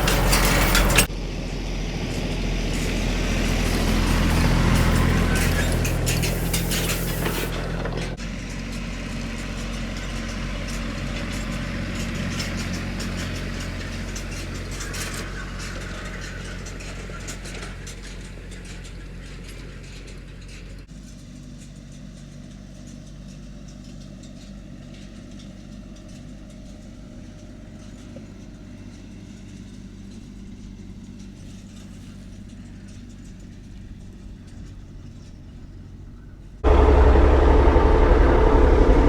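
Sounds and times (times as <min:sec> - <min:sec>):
tractor engine running: 0:00.0 - 0:36.0, 0:36.6 - 0:39.0.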